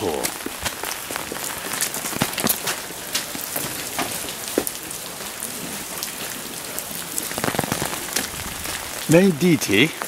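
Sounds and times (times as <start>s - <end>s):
raindrops striking an umbrella: 0.0s - 10.0s
steady rain: 0.0s - 10.0s.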